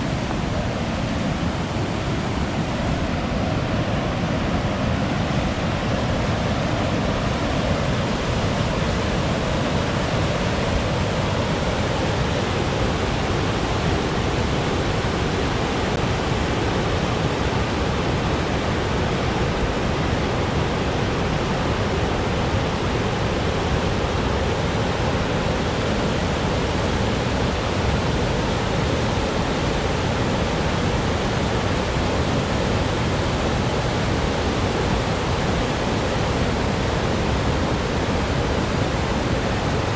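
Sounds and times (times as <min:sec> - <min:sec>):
fast-moving water rushing: 0:00.0 - 0:39.9.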